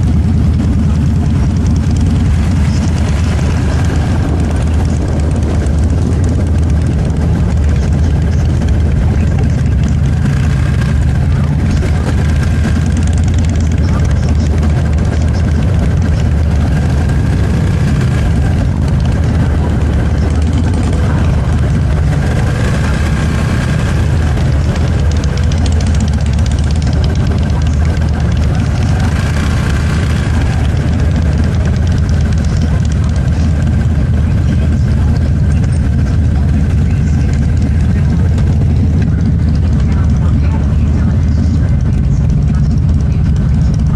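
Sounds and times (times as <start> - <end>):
motorcycle engine running: 0.0 - 43.9
road noise: 0.0 - 43.9.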